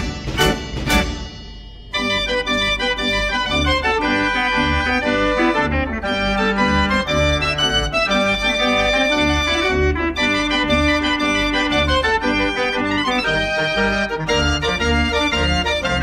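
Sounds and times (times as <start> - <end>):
fairground organ playing lively tune: 0.0 - 1.2, 2.0 - 16.0.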